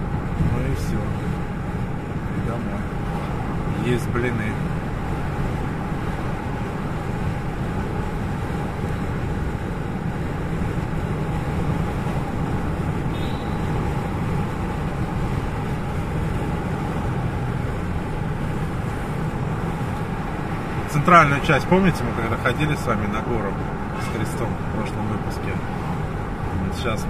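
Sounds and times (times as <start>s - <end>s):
car engine and tyre noise: 0.0s - 27.0s.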